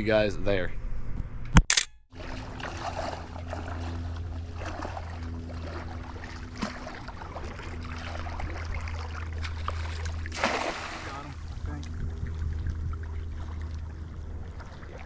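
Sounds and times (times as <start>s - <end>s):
low engine drone: 2.2s - 15.0s.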